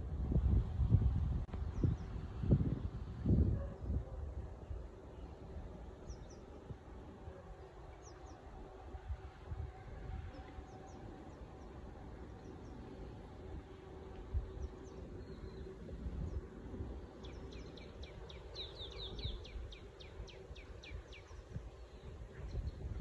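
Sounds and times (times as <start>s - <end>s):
low steady hum: 0.0s - 23.0s
wind on microphone: 0.0s - 23.0s.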